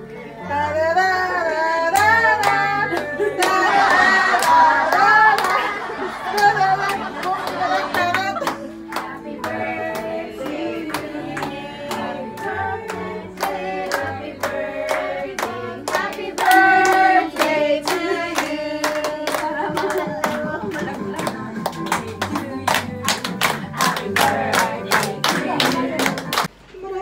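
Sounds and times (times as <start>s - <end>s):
people singing together: 0.0s - 26.5s
hand-clapping in time: 1.9s - 5.7s, 6.3s - 26.5s.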